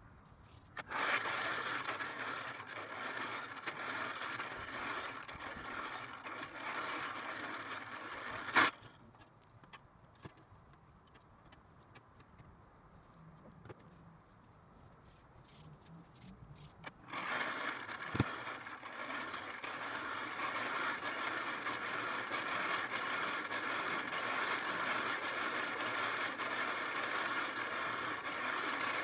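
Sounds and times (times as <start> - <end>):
charcoal clicks: 0.6 - 14.2, 15.6 - 29.0.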